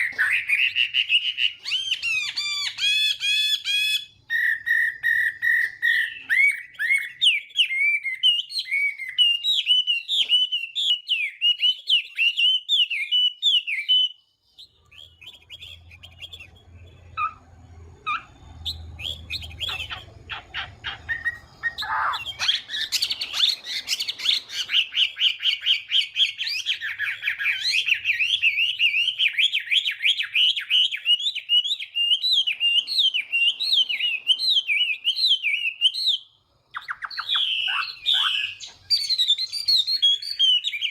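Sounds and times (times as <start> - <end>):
bird singing whistled phrases: 0.0 - 40.9.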